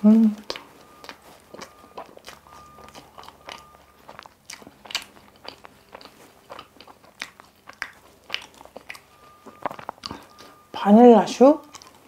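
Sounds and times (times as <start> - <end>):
crunchy pastry chewing: 0.0 - 12.0.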